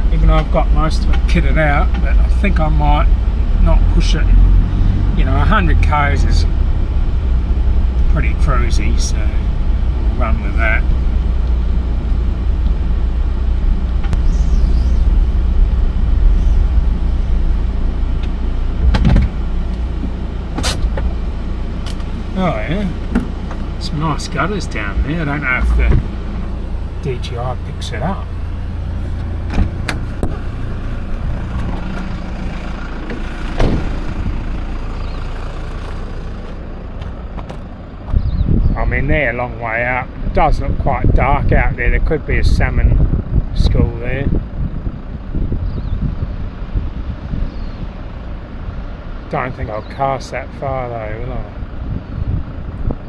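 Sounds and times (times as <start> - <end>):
engine and road noise rumble: 0.0 - 53.0.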